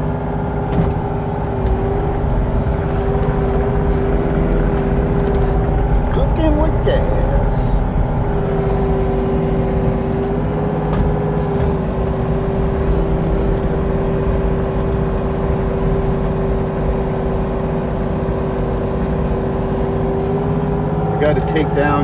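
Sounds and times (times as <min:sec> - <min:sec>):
diesel engine droning: 0:00.0 - 0:22.0
steady humming tone: 0:00.7 - 0:21.4.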